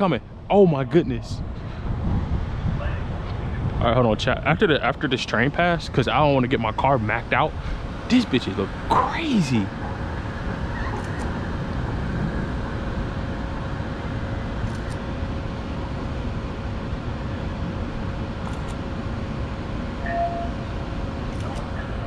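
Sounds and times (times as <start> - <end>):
train wheels rumbling on rails: 1.4 - 22.0.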